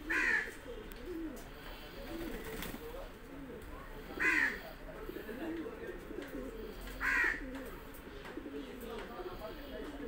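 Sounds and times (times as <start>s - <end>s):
pigeons cooing: 0.0s - 9.0s.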